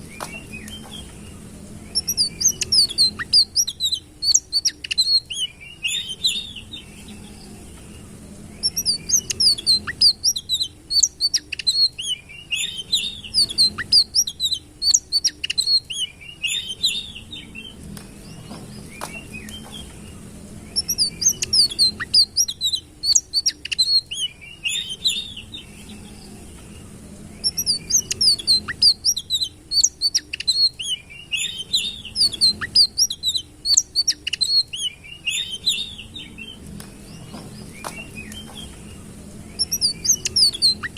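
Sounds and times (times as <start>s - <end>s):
faint low hum: 0.0s - 40.9s
songbird chirps and trills: 0.0s - 40.9s.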